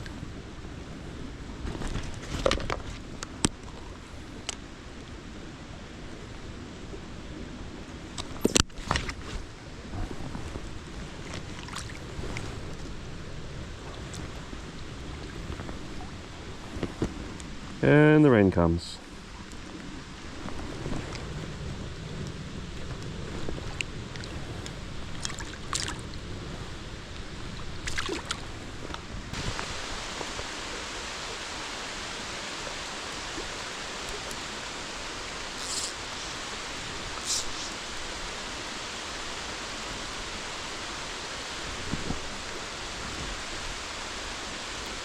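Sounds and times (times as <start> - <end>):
rain on a stream: 0.0 - 45.0.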